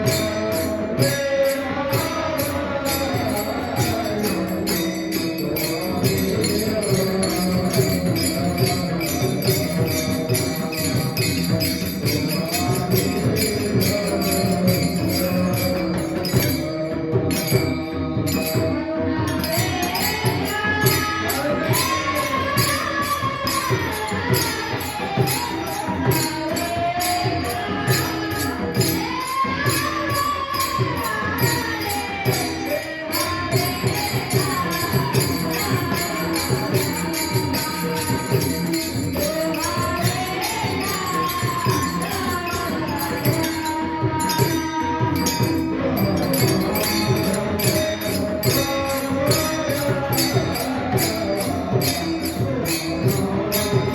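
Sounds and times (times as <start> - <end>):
devotional singing: 0.0 - 53.9
hand drum: 0.0 - 53.9
small hand cymbals clashing: 0.0 - 53.9.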